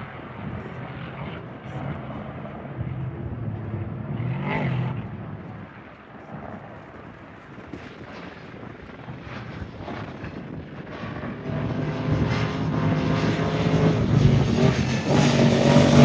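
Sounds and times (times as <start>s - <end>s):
engine drone: 0.0s - 7.8s, 8.5s - 16.0s.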